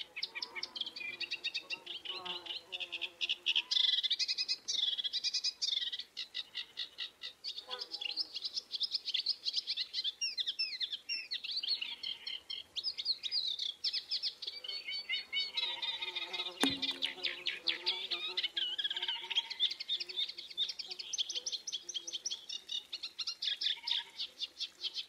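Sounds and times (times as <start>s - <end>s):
birds chirping chorus: 0.0s - 25.0s.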